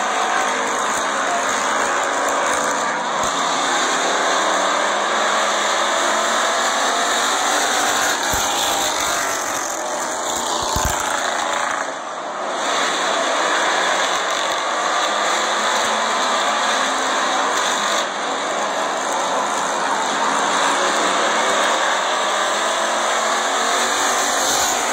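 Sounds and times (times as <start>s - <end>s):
race car engines: 0.0s - 24.9s.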